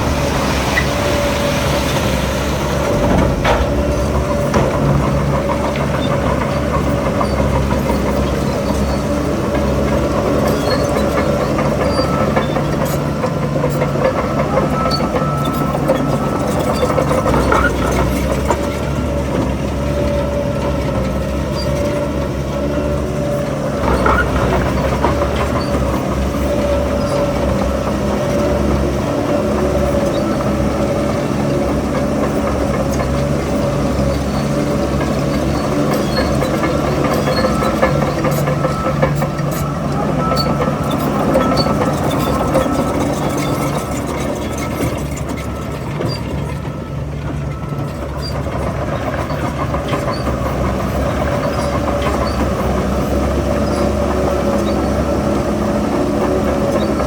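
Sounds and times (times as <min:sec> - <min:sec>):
heavy diesel engine whining: 0:00.0 - 0:57.0.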